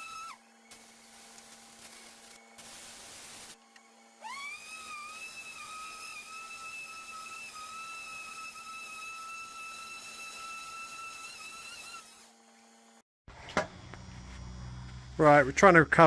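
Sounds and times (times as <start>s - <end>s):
power tool motor whine: 0.0s - 2.6s, 3.8s - 15.2s.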